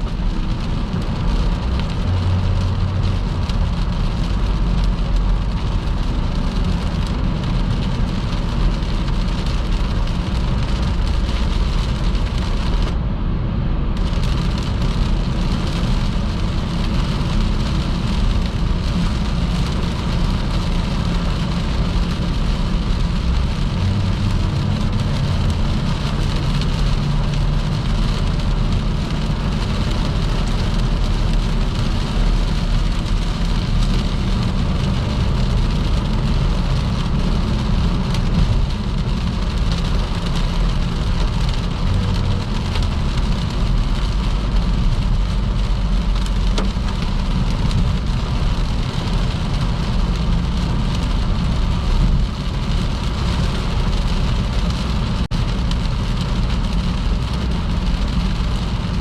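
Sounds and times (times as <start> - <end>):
tyres hissing on wet road: 0.0 - 13.0, 14.0 - 59.0
car road and engine rumble: 0.0 - 59.0
heavy rain: 0.0 - 59.0.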